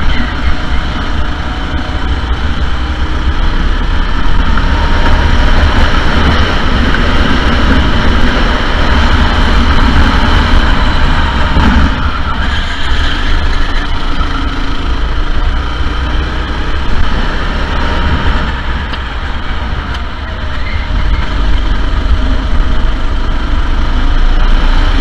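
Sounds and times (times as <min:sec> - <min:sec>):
go-kart engines droning: 0:00.0 - 0:25.0.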